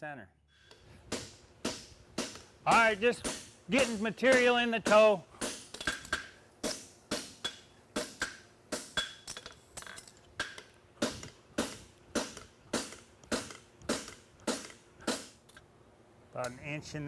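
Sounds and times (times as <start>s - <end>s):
hammer striking steel on anvil: 0.6s - 15.4s.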